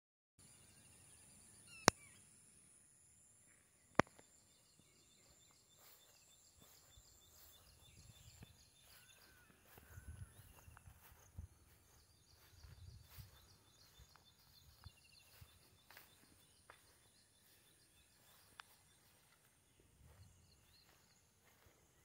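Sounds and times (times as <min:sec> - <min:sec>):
faint bird chirps: 0:00.4 - 0:22.0.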